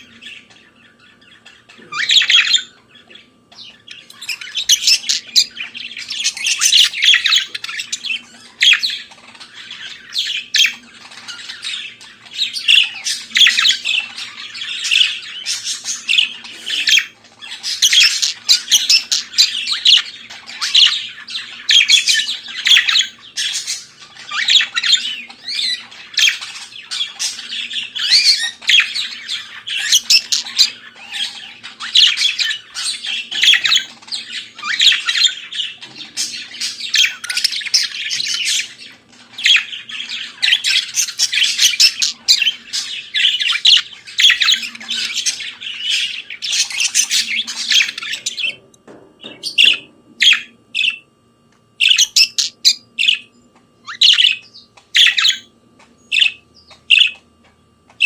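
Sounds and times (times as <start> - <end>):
budgerigar warbling and chattering: 0.0 - 51.0, 51.8 - 55.5, 56.1 - 57.2.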